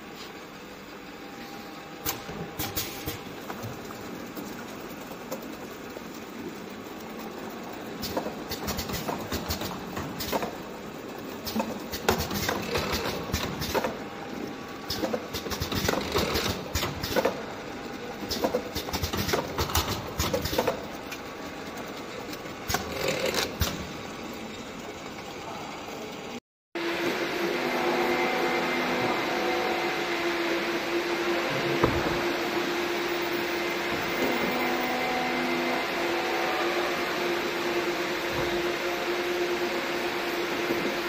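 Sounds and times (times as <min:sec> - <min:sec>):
mechanical hum: 0:00.0 - 0:41.0.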